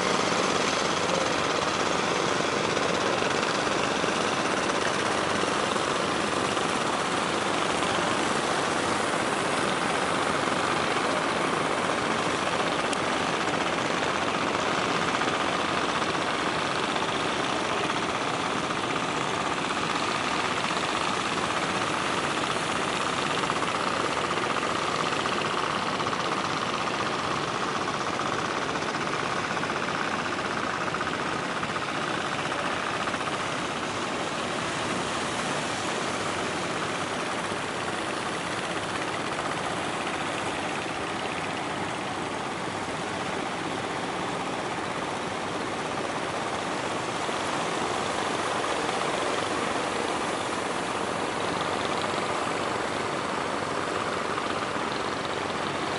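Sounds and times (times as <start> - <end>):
boat engines running: 0.0 - 55.9.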